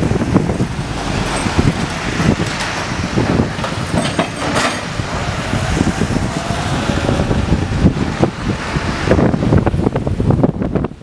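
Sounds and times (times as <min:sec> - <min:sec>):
tyres hissing on wet road: 0:00.0 - 0:11.0
wind buffeting microphone: 0:00.0 - 0:11.0.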